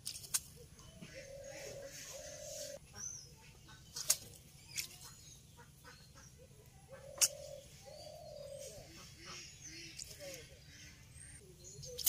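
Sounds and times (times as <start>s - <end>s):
short low bird calls: 0.5s - 12.0s.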